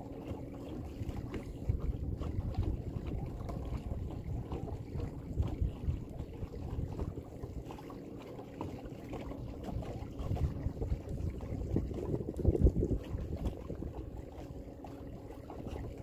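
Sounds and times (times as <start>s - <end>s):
faint motor hum: 0.0s - 16.0s
wind buffeting microphone: 0.8s - 7.8s, 9.4s - 16.0s.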